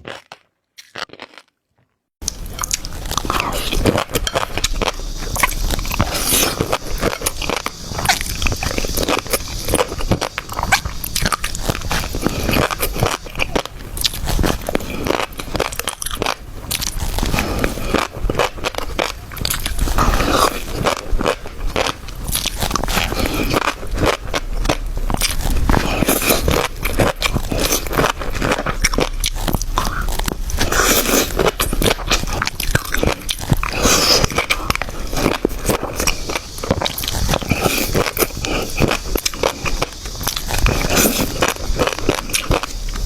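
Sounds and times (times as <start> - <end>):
chewing crunchy food: 0.0 - 43.0.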